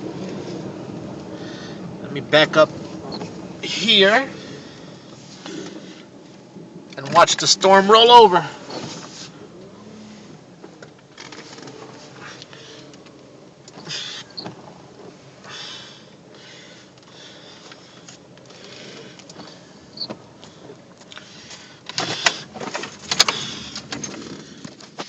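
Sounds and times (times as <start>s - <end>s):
rain on a car roof: 0.0s - 25.0s.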